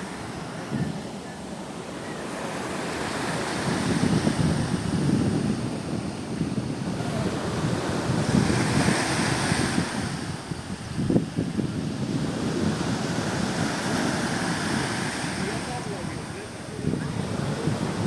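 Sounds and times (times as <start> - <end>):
wind buffeting microphone: 0.0 - 1.5, 2.2 - 18.0
sea waves washing: 0.0 - 18.0.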